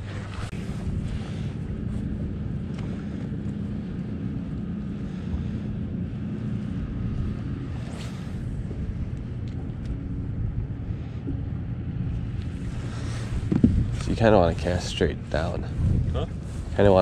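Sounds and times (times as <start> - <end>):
boat motor humming: 0.0 - 17.0
wind on microphone: 0.0 - 17.0.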